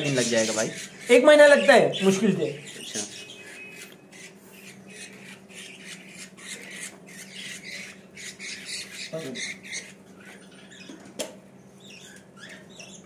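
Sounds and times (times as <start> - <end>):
bird chicks squawking: 0.0 - 13.0.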